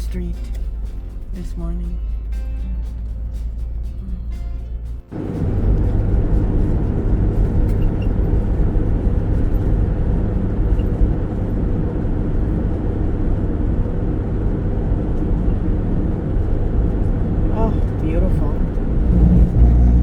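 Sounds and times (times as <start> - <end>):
road and engine rumble: 0.0 - 20.0.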